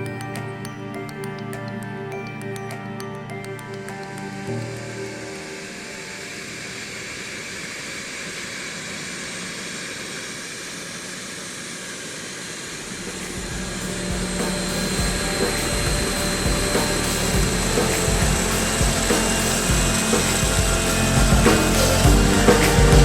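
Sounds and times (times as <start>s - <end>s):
aircraft turbine engine running: 2.7s - 23.0s.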